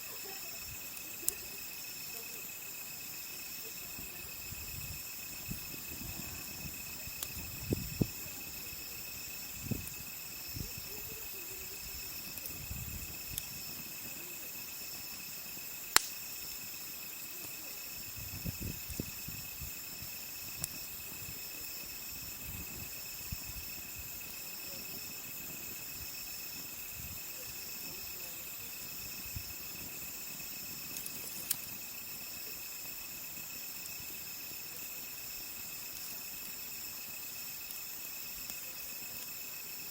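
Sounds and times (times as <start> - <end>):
campfire popping: 0.0 - 39.9
insects chirping: 0.0 - 39.9.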